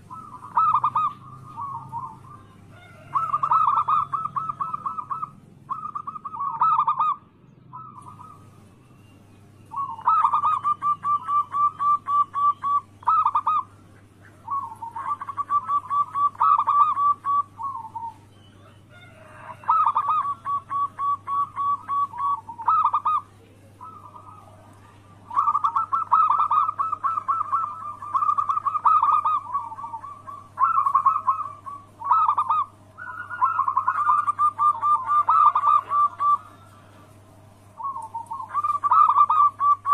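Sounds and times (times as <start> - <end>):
dove cooing: 0.0 - 39.9
faint low hum: 0.0 - 39.9.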